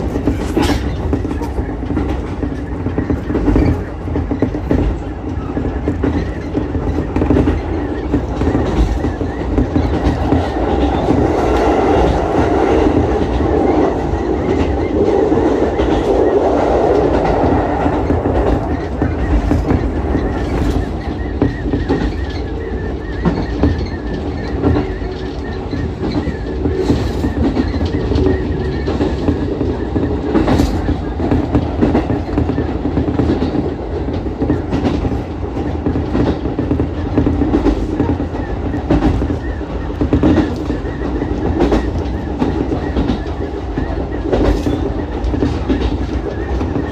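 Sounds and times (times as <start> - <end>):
train wheels rumbling: 0.0 - 46.9
wheels clicking over rail joints: 0.0 - 46.9.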